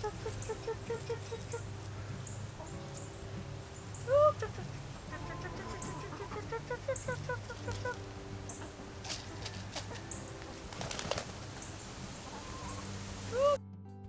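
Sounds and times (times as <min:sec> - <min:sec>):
hens clucking softly: 0:00.0 - 0:13.6
wings fluttering: 0:00.0 - 0:13.6.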